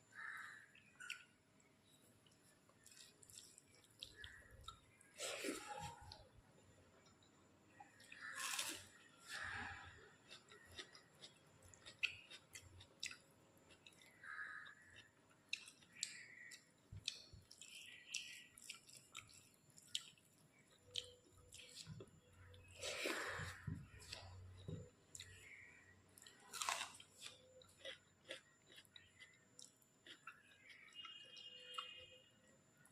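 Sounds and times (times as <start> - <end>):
close-up chewing and mouth sounds: 2.2 - 6.4, 8.0 - 32.0.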